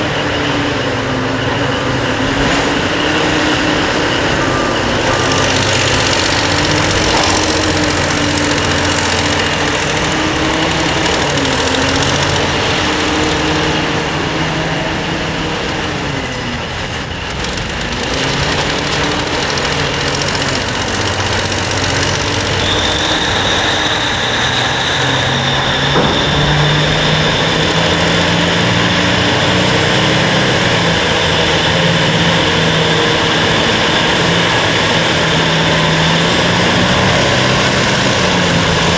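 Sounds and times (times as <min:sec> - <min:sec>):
heavy machinery droning: 0:00.0 - 0:38.9
high whine: 0:00.0 - 0:38.9.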